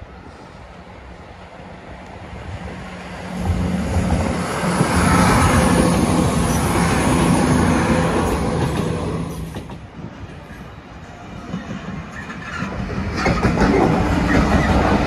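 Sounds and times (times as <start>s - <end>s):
diesel train engines droning: 0.0s - 15.0s
train wheels rumbling on rails: 0.0s - 15.0s.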